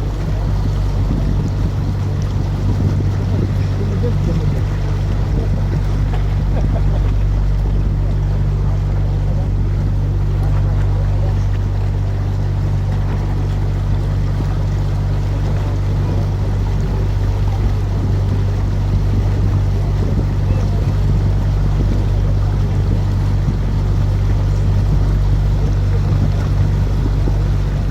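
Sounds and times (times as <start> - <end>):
boat motor humming: 0.0 - 27.9
water wash: 0.0 - 27.9
wind noise: 0.0 - 27.9.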